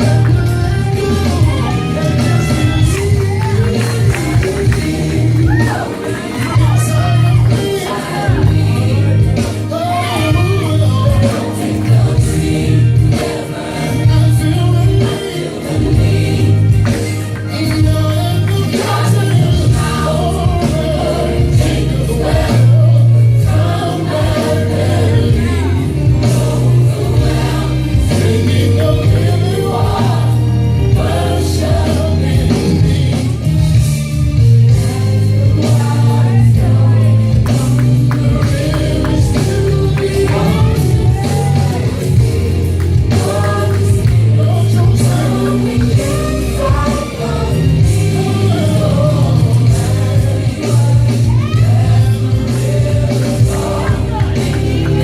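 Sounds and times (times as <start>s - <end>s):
band accompaniment: 0.0s - 55.0s
bass notes: 0.0s - 55.0s
gospel choir singing: 0.0s - 55.0s.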